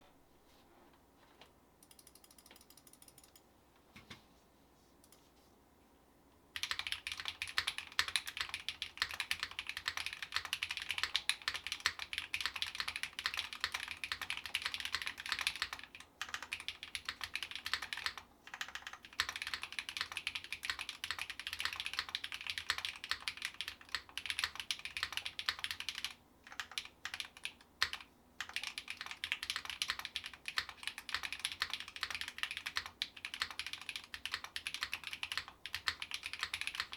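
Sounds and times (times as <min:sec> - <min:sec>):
typing on mechanical keyboard: 0:01.8 - 0:03.4, 0:06.6 - 0:36.9.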